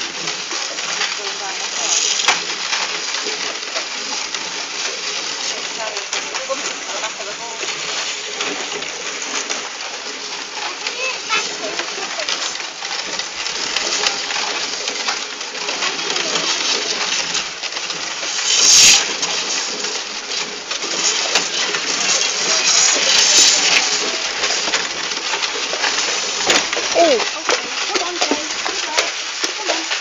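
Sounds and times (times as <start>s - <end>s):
horse-drawn cart rattling: 0.0s - 30.0s.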